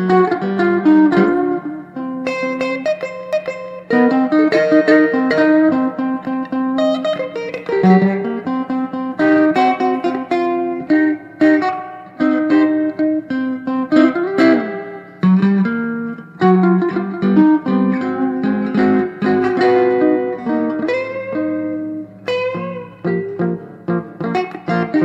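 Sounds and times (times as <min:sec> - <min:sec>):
electric guitar duet: 0:00.0 - 0:25.0.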